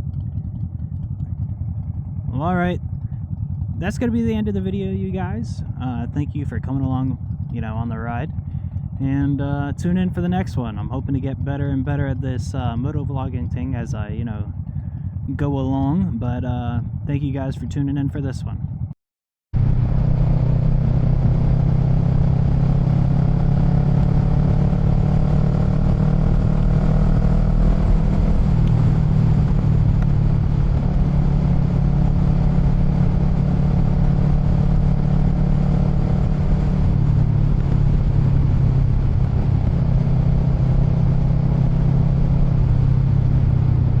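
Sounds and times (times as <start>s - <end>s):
motorcycle engine running: 0.0s - 18.9s, 19.6s - 44.0s.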